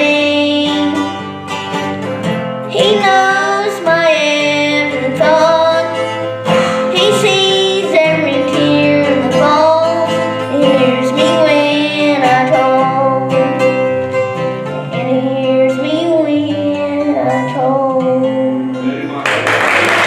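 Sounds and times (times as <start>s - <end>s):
person singing: 0.0s - 1.2s, 2.7s - 14.2s, 14.8s - 19.2s
acoustic guitar: 0.0s - 20.0s.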